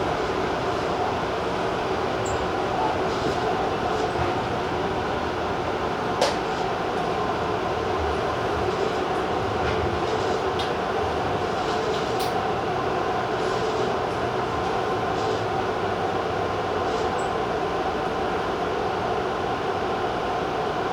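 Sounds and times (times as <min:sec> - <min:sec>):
electric train running hum: 0:00.0 - 0:20.9.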